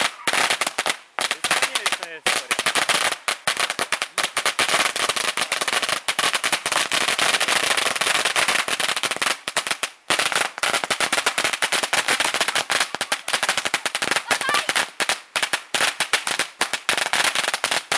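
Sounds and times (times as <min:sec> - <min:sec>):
firecrackers banging: 0:00.0 - 0:17.9.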